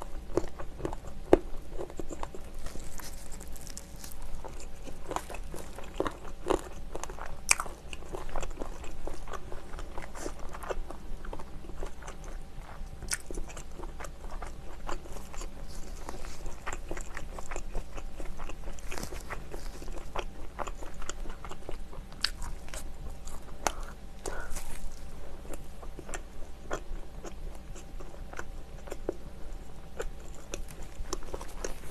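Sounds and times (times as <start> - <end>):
crunchy chewing of fried chicken: 0.0 - 31.9.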